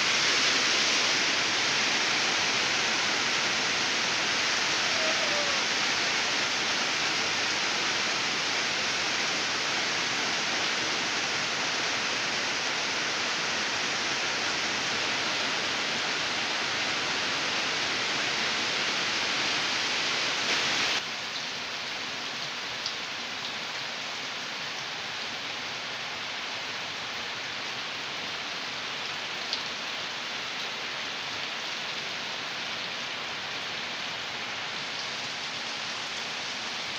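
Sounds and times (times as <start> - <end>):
heavy rain on foliage: 0.0 - 36.9.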